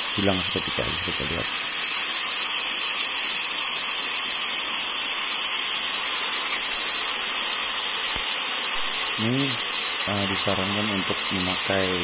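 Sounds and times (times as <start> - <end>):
sandblaster hissing: 0.0 - 12.0.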